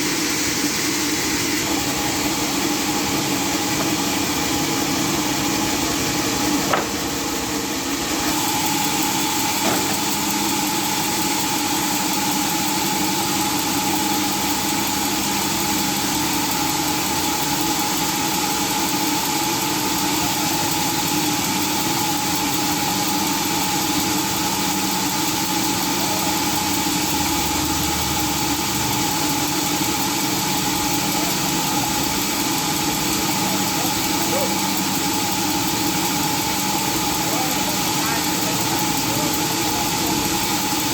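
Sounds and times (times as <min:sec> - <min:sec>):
sawmill machinery hum: 0:00.0 - 0:40.9.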